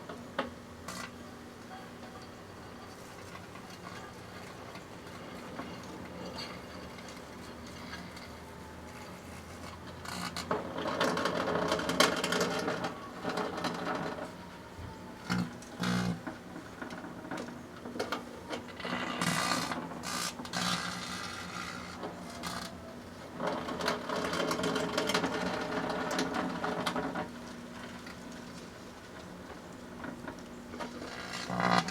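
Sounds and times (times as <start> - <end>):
crackling and popping of burning plastic: 0.0 - 31.9
microwave oven hum: 0.0 - 31.9.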